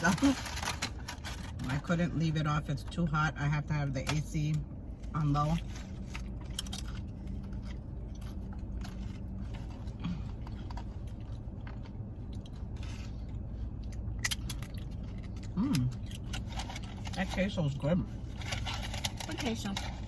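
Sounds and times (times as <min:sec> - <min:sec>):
chewing and crunching chips: 0:00.0 - 0:03.1, 0:04.9 - 0:20.0
car air conditioning hum: 0:00.0 - 0:20.0.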